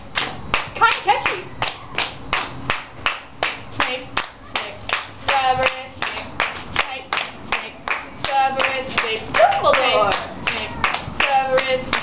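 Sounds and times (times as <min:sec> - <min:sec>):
rhythmic hand clapping: 0:00.0 - 0:12.0.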